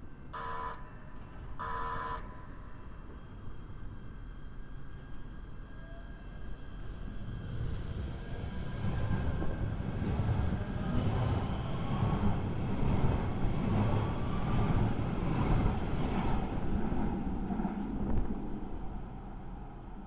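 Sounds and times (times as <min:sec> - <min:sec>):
train rumbling on rails: 0:02.8 - 0:20.0.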